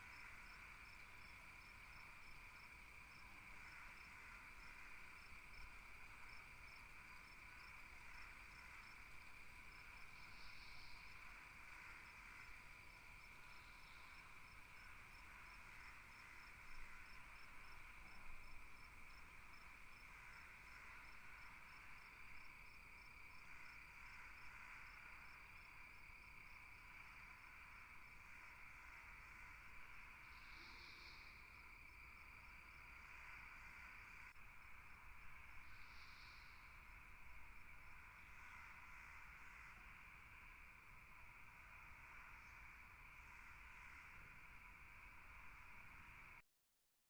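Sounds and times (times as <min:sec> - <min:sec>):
crickets chirping: 0:00.0 - 0:46.4.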